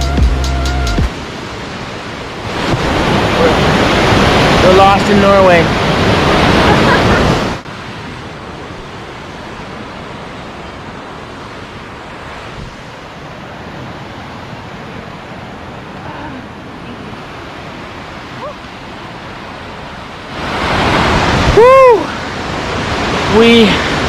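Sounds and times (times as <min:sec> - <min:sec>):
fast-flowing mountain water: 0:01.0 - 0:24.0.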